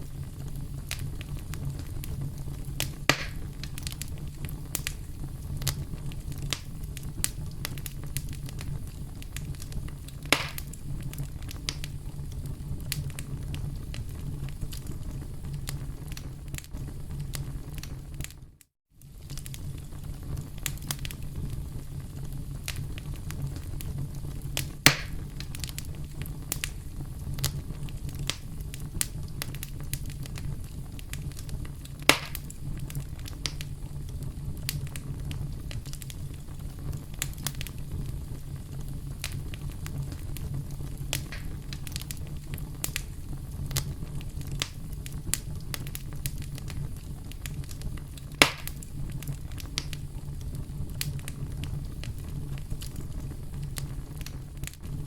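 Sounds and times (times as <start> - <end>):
campfire flames rumbling: 0.0 - 55.0
loud fire pops: 0.0 - 55.0
small fire crackles: 0.0 - 55.0.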